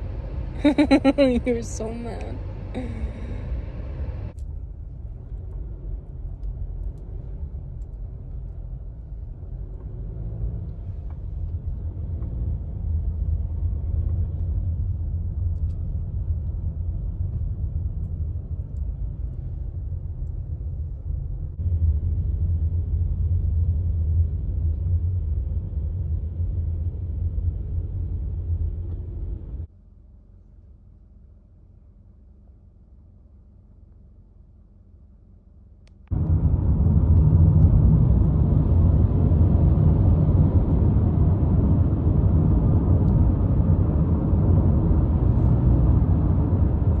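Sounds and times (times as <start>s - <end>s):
road and engine rumble in car: 0.0s - 47.0s.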